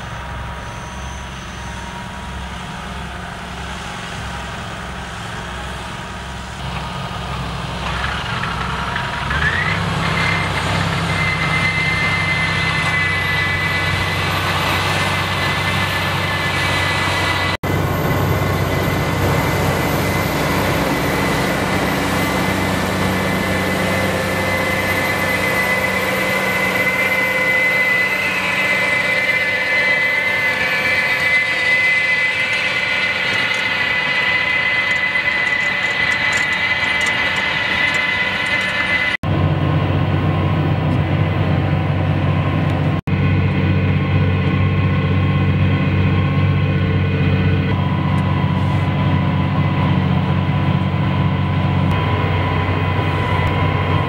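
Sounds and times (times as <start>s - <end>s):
high steady whine: 0.0s - 54.0s
tractor engine running: 0.0s - 54.0s.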